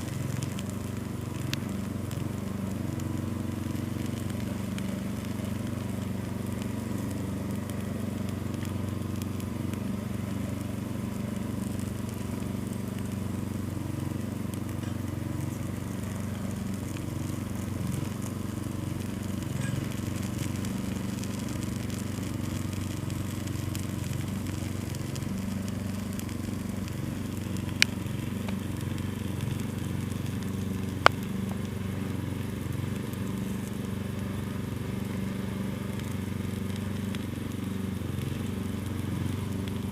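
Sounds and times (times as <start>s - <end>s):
fire popping: 0.0s - 39.9s
small fire rumbling: 0.0s - 39.9s.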